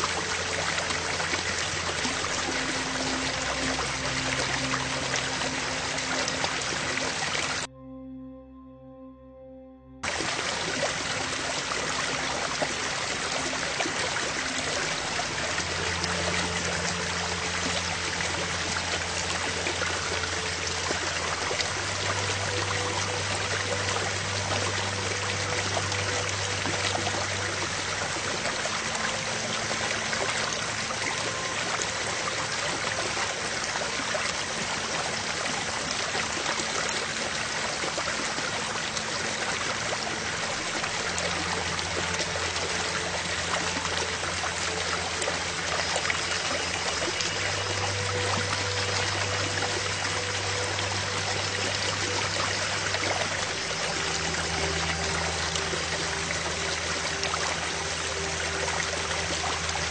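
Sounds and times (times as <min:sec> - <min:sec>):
flowing stream: 0:00.0 - 0:07.7, 0:10.0 - 0:59.9
ambient background music: 0:00.0 - 0:59.9.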